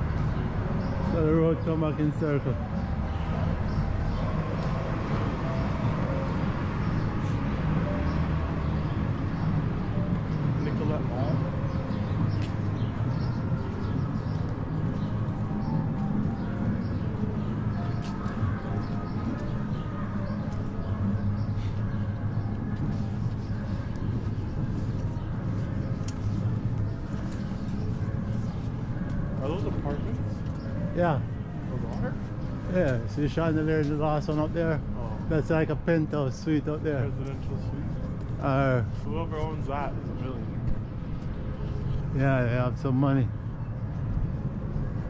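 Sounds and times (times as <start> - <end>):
distant traffic rumble: 0.0 - 45.0.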